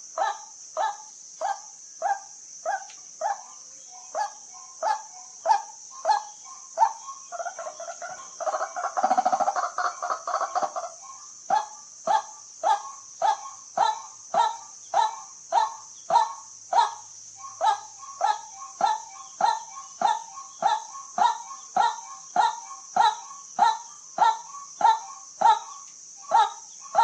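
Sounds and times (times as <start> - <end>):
steady high hiss: 0.0 - 27.0.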